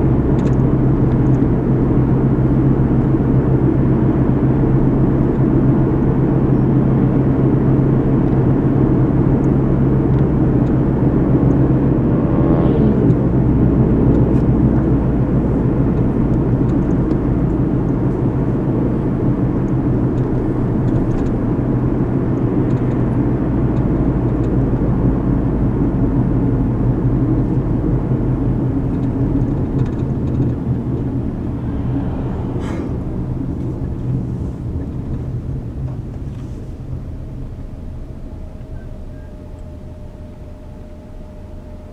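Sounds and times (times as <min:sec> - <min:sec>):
car road noise from inside: 0:00.0 - 0:41.9.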